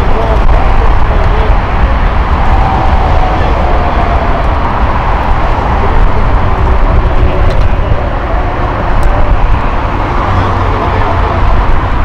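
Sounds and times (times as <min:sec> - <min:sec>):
jet aircraft rumble: 0:00.0 - 0:12.0.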